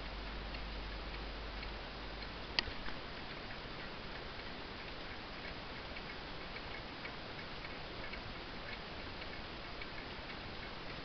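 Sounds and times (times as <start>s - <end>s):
background hiss: 0.0s - 11.0s
pendulum wall clock ticking: 0.0s - 11.0s.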